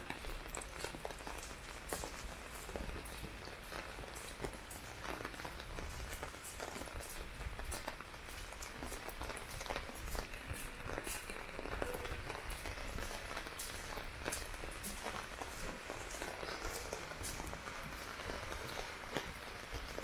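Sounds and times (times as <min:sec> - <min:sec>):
heavy rain falling: 0:00.0 - 0:20.0
rain drop taps: 0:00.0 - 0:20.0.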